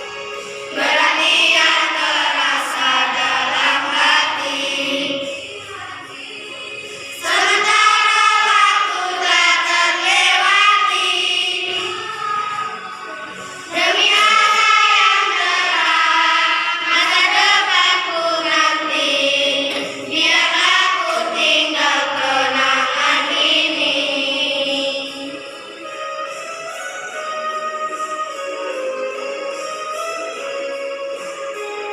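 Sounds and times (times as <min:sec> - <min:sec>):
children's choir singing: 0:00.0 - 0:26.4.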